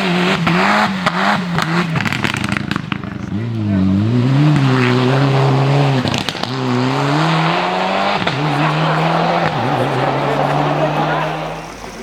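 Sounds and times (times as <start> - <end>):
rally car engine accelerating: 0.0 - 12.0
sharp exhaust pops: 0.0 - 12.0.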